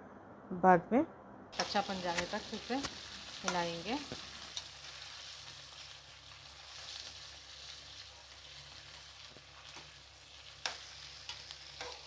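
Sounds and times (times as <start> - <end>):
chicken sizzling in hot oil: 1.6 - 12.0.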